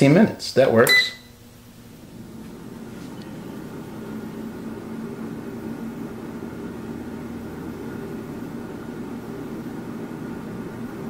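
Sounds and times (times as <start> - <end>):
air fryer fan humming: 0.0 - 11.0.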